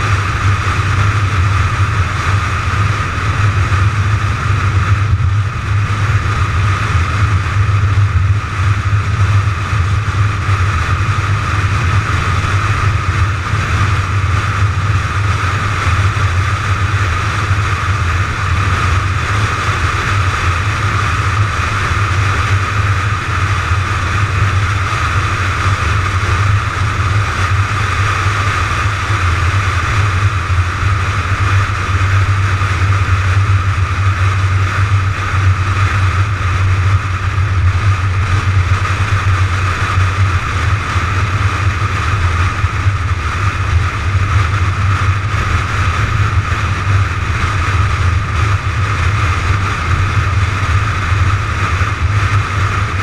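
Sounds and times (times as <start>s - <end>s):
car driving noise drone: 0.0s - 53.0s.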